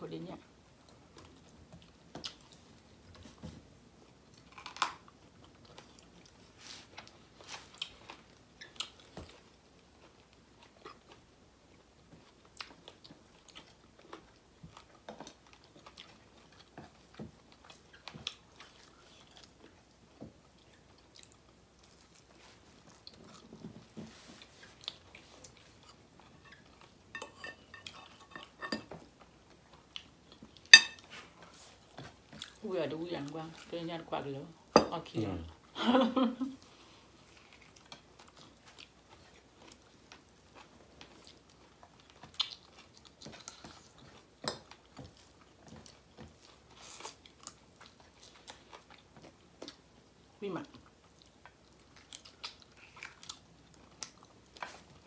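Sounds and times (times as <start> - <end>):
people chewing: 0.8 - 34.6, 35.2 - 55.0.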